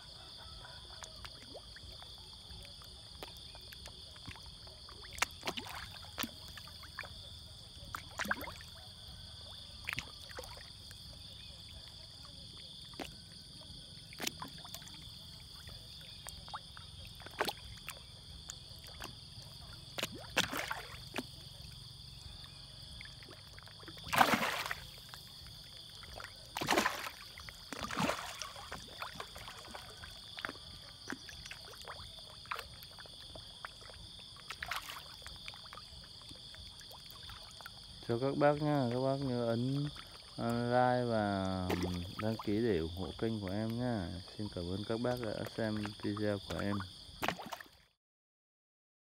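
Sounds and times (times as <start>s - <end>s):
fish splashing and slurping: 0.0s - 48.0s.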